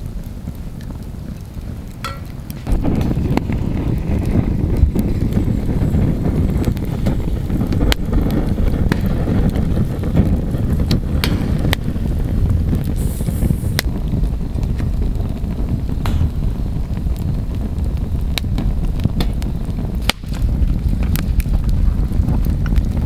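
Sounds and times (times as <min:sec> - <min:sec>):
burning wood crackling and popping: 0:00.0 - 0:23.0
campfire low rumble: 0:00.0 - 0:23.0.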